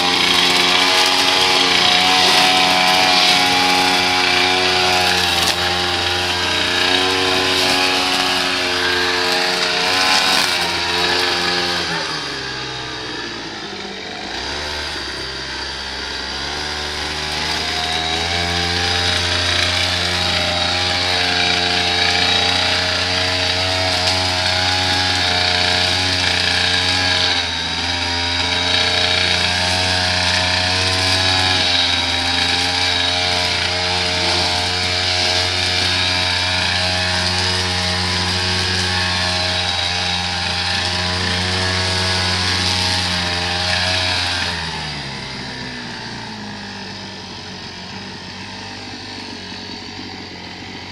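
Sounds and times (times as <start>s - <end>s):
small two-stroke engine revving: 0.0s - 50.9s.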